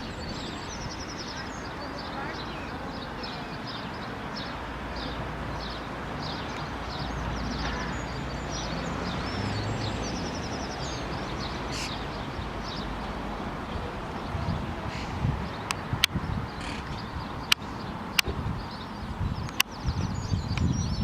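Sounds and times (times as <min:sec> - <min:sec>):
birds chirping: 0:00.0 - 0:21.0
low traffic rumble: 0:00.0 - 0:21.0.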